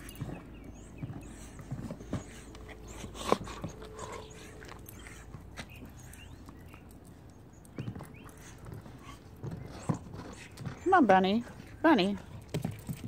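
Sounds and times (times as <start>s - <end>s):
dogs chewing rubber toy: 0.0s - 13.0s.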